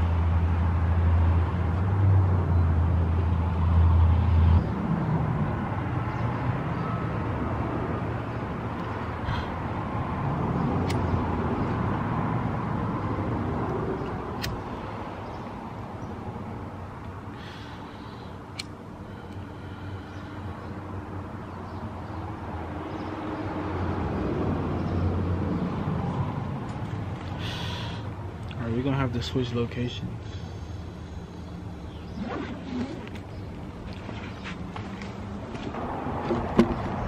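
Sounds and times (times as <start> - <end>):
road noise: 0.0 - 37.0
vehicle engine hum: 0.0 - 37.0.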